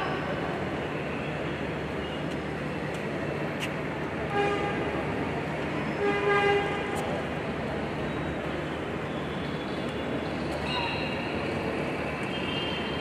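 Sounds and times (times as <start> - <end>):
stadium background noise: 0.0 - 13.0.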